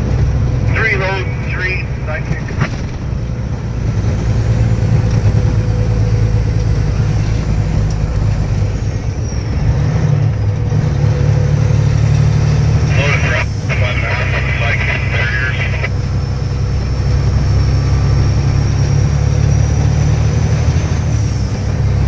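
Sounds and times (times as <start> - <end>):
road noise: 0.0 - 22.0
truck engine drone: 0.0 - 22.0.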